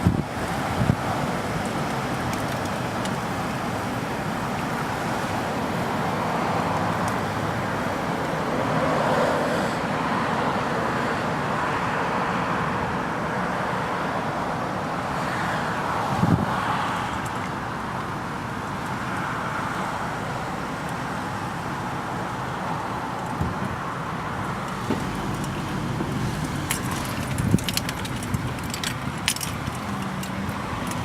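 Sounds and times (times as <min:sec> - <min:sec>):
cars passing by: 0:00.0 - 0:31.0.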